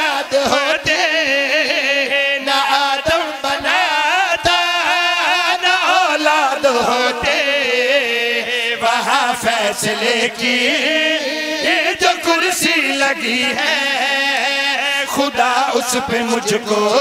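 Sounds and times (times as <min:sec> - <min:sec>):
man singing melismatic chant: 0:00.0 - 0:17.0.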